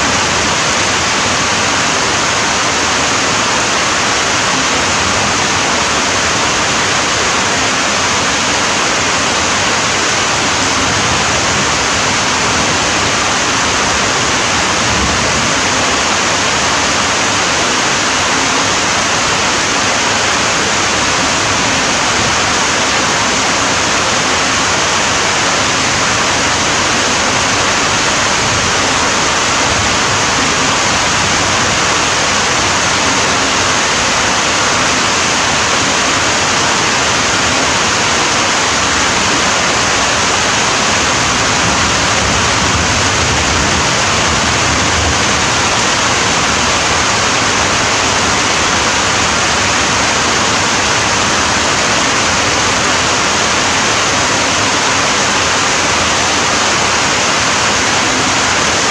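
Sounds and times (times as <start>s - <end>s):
heavy rain hissing: 0.0s - 58.9s.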